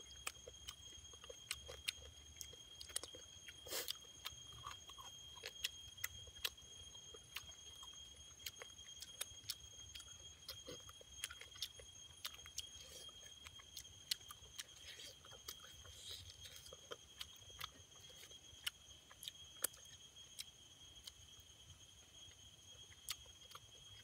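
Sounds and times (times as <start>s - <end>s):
wet chewing: 0.0s - 21.3s, 22.3s - 24.0s.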